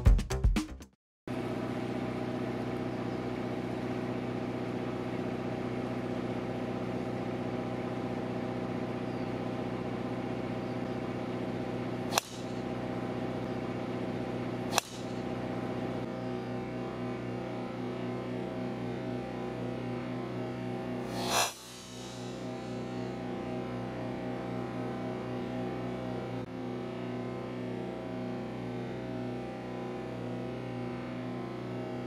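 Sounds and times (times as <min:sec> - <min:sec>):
steady mechanical hum: 0:01.3 - 0:32.0.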